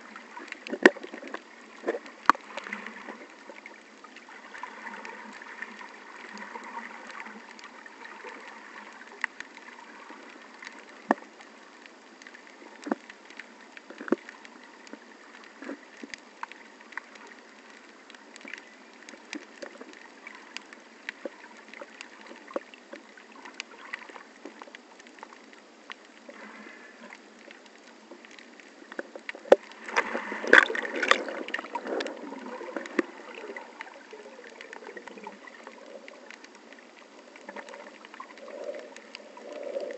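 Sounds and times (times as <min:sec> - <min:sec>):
muffled underwater water noise: 0:00.0 - 0:39.9
rush of water: 0:00.0 - 0:39.9.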